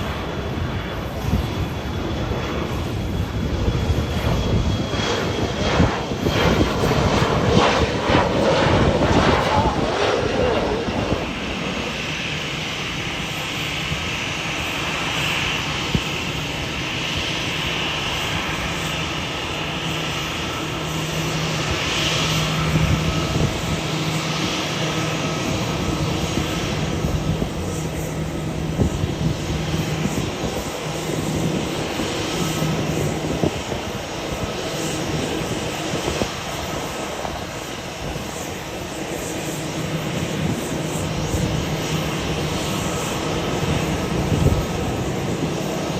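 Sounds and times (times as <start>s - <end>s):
jet airliner engines: 0.0s - 45.9s.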